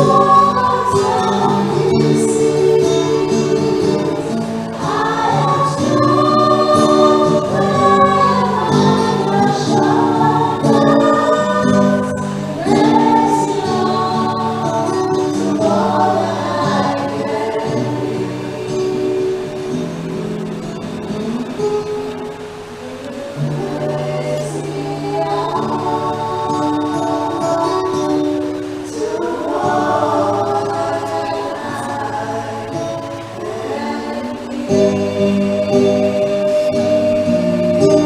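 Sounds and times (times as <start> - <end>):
choir singing a hymn: 0.0 - 38.0.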